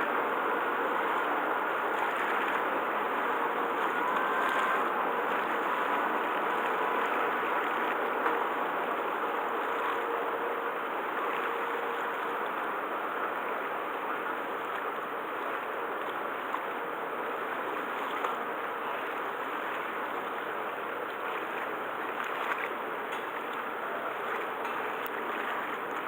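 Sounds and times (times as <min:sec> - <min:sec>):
churned seawater rushing: 0:00.0 - 0:26.0
faint steady hum: 0:00.0 - 0:26.0.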